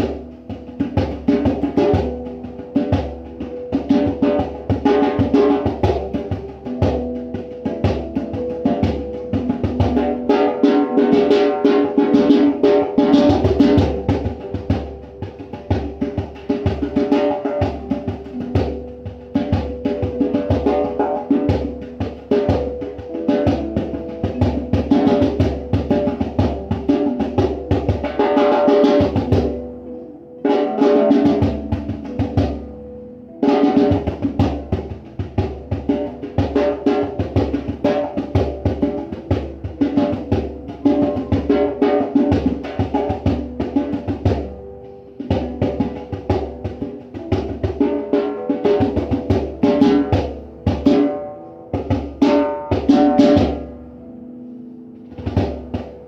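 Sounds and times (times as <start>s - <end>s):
hand drum beaten: 0.0s - 53.8s, 55.0s - 56.0s.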